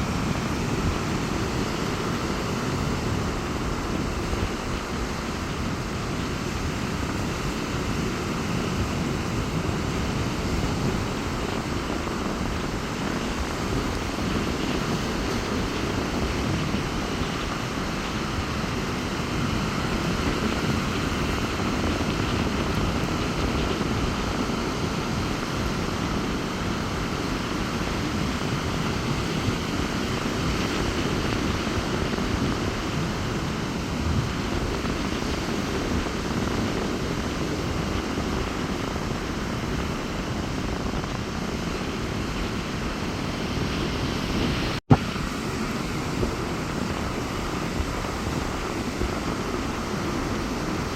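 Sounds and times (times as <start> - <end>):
surf breaking on beach: 0.0 - 50.9
wind rumbling on microphone: 0.0 - 50.9.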